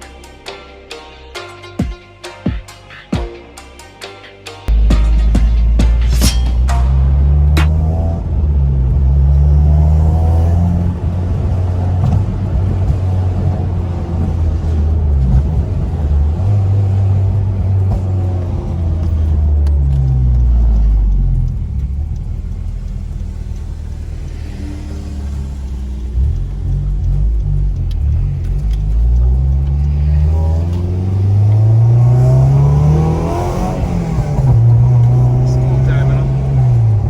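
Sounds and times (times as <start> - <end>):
car engine and exhaust rumbling: 4.7 - 37.0.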